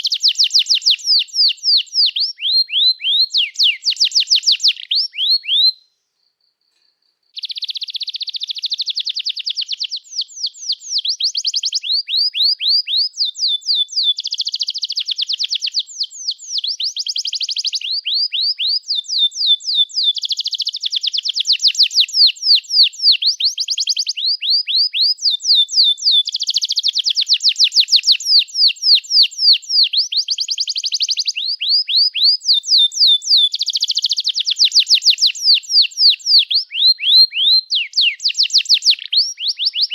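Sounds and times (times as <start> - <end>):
canary singing: 0.0 - 5.8, 7.4 - 39.9.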